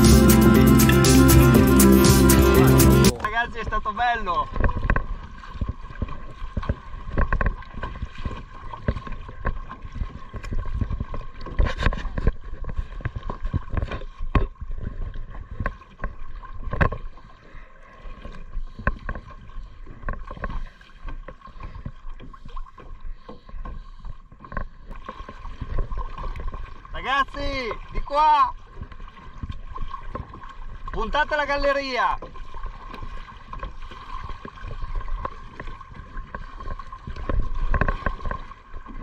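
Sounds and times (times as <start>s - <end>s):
paddles splashing in water: 0.0s - 39.0s
water sloshing against hull: 3.1s - 39.0s.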